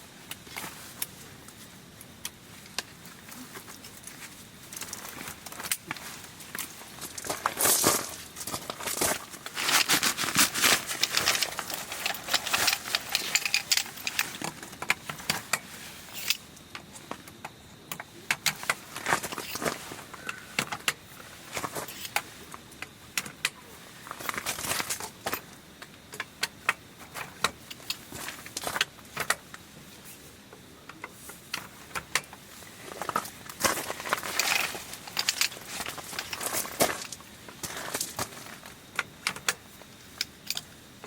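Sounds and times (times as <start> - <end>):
clicks knocks and rustling of gear: 0.3 - 29.6, 30.9 - 40.7.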